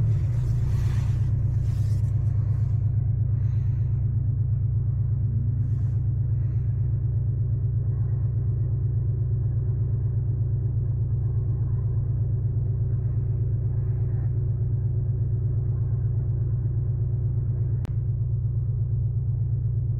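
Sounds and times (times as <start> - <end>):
car engine idling: 0.0 - 18.2.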